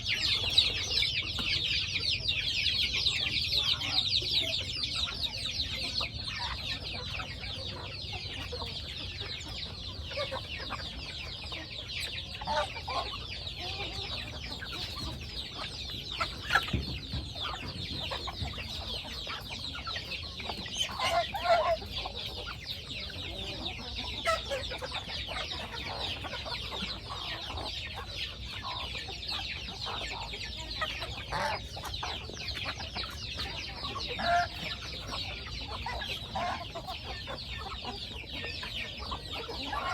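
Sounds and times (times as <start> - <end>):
chickens clucking: 0.0 - 39.9
high-pitched chirping of birds: 0.0 - 39.9.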